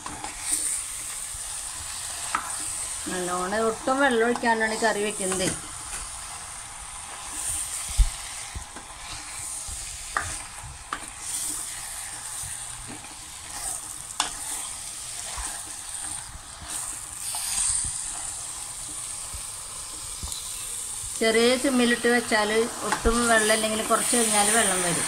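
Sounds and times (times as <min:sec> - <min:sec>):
spoon stirring and scraping: 0:00.0 - 0:20.8
chicken sizzling in oil: 0:00.0 - 0:25.0.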